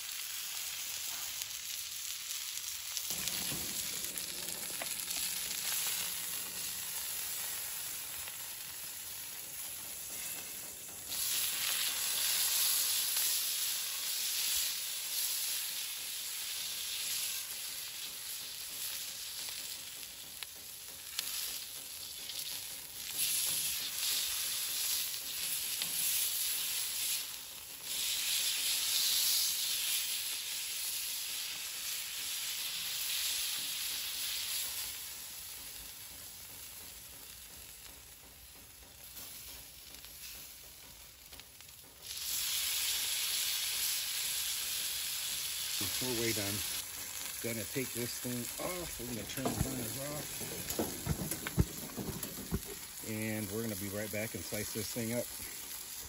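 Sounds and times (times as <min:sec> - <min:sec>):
steak sizzling on a hot block: 0:00.0 - 0:56.0.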